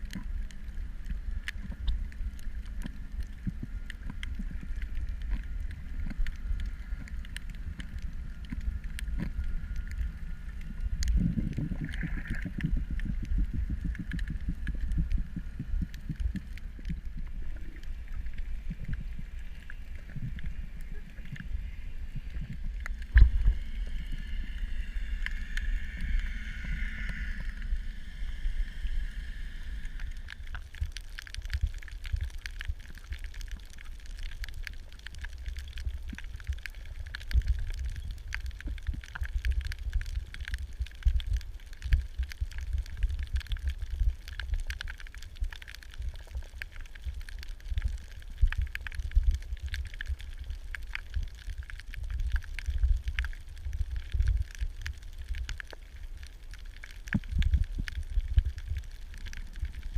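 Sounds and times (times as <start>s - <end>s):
small underwater clicks and crackles: 0.0s - 59.9s
underwater low rumble: 0.0s - 59.9s.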